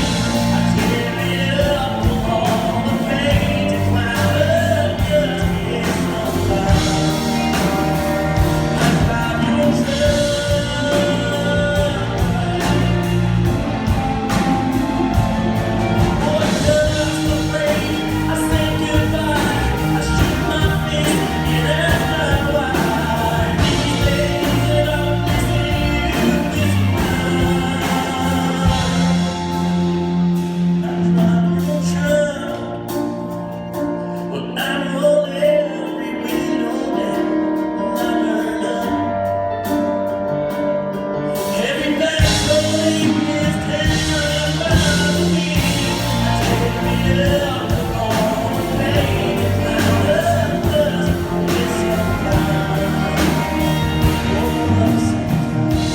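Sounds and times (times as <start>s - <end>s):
live country band: 0.0s - 55.9s
man singing: 0.0s - 55.9s.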